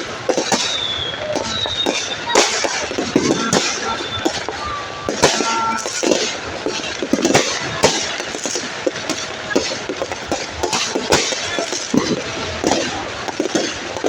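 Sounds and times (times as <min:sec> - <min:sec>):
fireworks cracking and popping: 0:00.0 - 0:14.0
steady hiss: 0:00.0 - 0:14.0.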